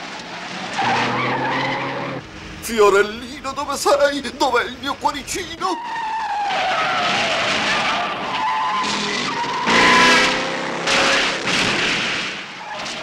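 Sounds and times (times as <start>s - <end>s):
cartoon tyres screeching: 0.4s - 13.0s.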